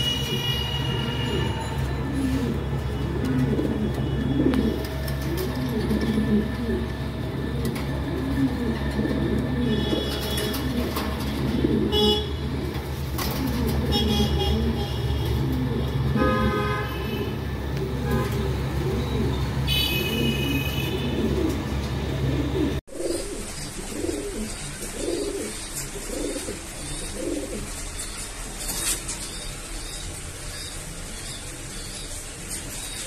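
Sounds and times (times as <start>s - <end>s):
pigeons cooing: 0.2s - 29.0s.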